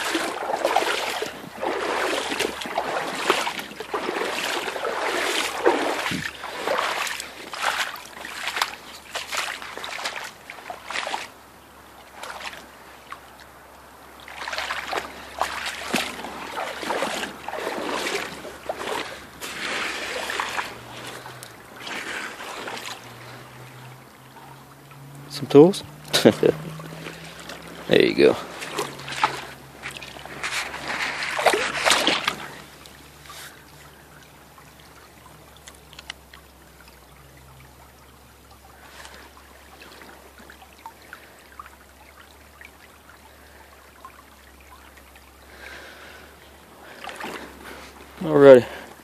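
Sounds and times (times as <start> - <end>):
creek water splashing: 0.0 - 49.0.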